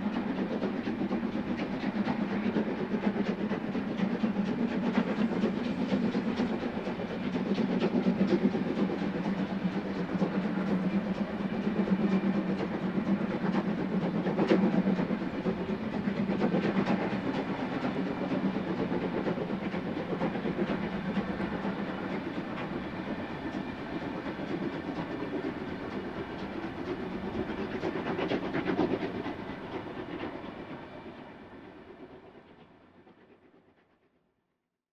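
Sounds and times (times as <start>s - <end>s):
steam train rolling past: 0.0s - 34.1s.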